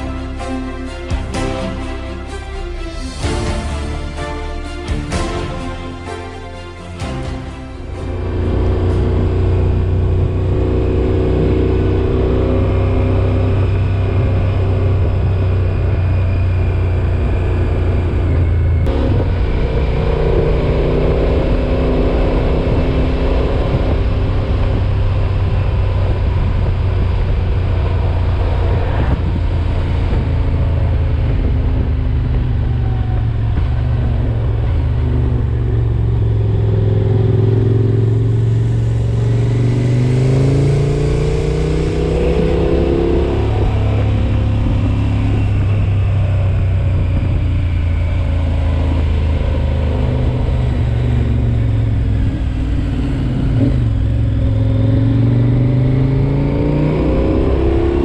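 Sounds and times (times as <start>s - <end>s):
car engine and road hum: 7.3s - 58.0s.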